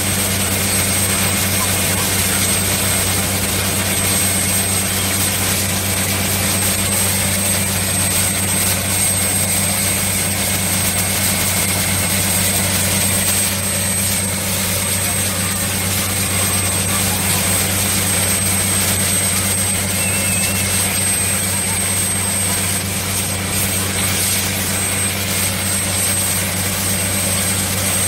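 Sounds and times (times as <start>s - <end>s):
drilling rig engine drone: 0.0s - 28.0s.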